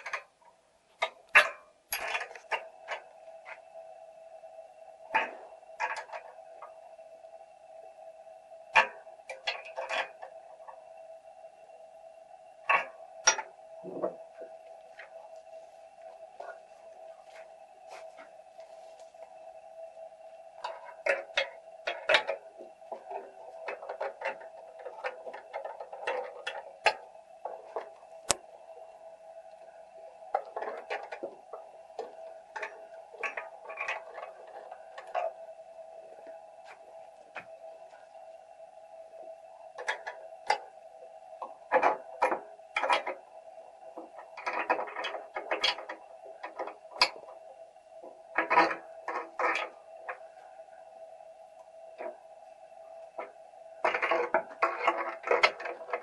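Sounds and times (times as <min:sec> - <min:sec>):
steady mid-pitched hum: 0:00.0 - 0:56.0.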